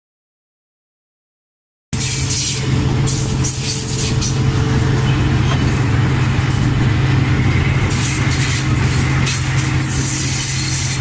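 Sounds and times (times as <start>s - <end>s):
locomotive engine running: 2.0s - 11.0s.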